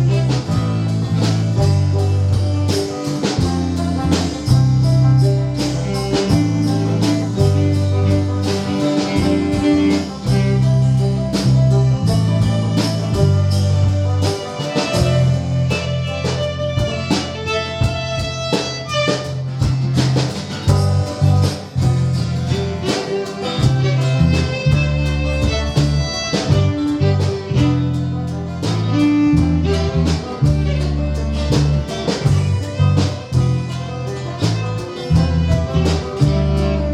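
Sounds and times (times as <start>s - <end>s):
band playing instrumental: 0.0s - 36.9s.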